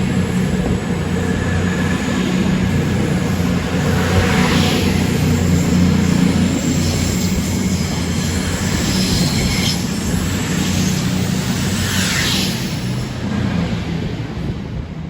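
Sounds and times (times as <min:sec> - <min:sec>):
train engine drone: 0:00.0 - 0:15.0.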